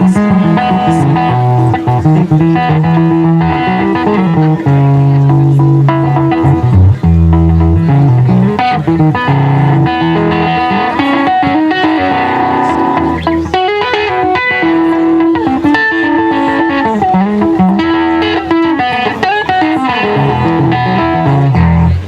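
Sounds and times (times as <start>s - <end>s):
amplified banjo playing: 0.0s - 22.0s.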